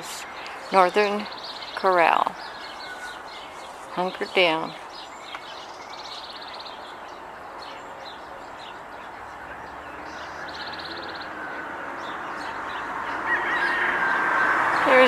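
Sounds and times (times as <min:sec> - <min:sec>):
small birds chirping: 0:00.0 - 0:15.0
steady background noise: 0:00.0 - 0:15.0
bird trill: 0:00.2 - 0:15.0.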